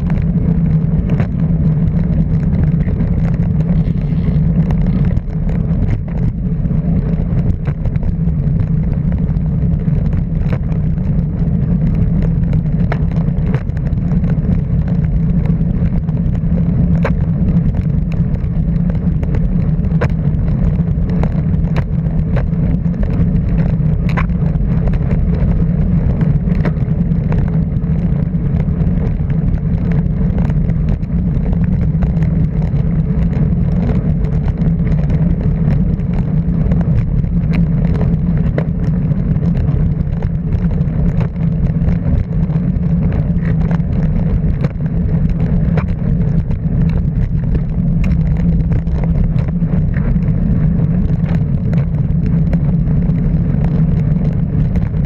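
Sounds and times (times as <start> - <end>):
continuous noisy rush: 0.0 - 55.0
vehicle engine running: 0.0 - 55.0.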